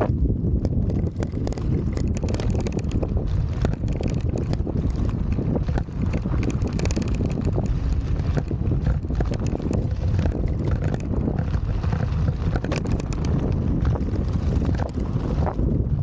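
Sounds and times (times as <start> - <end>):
tires rumbling over dirt: 0.0 - 16.0
wind buffeting microphone: 0.0 - 16.0
small clicks and knocks: 0.6 - 15.6.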